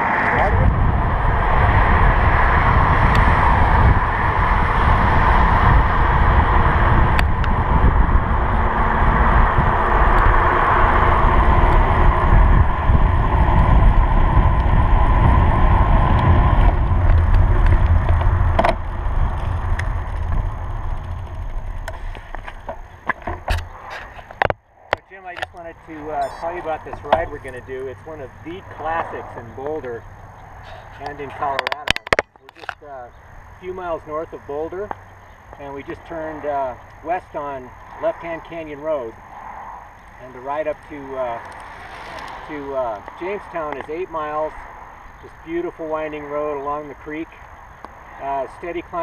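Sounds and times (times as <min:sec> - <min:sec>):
bicycle tyre noise on road: 0:00.0 - 0:49.0
wind rushing over microphone: 0:00.0 - 0:49.0.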